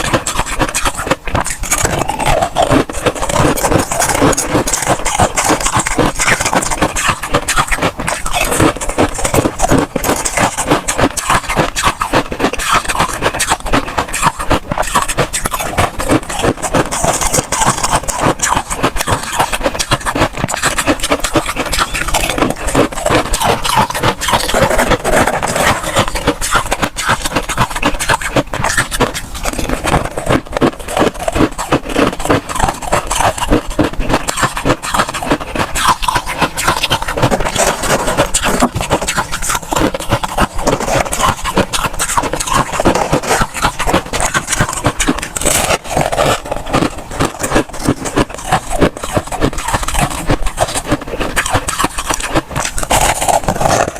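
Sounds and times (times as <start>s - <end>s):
frost crunching and scraping: 0.0s - 53.9s.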